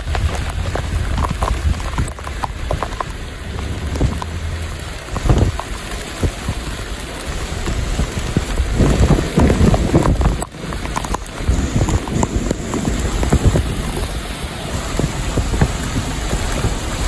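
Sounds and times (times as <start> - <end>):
heavy rain drops: 0.0 - 17.0
wind rumble on microphone: 0.0 - 17.0.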